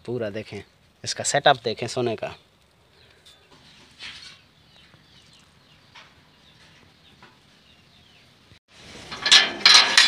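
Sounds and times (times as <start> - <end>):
faint birds chirping: 0.0 - 8.6.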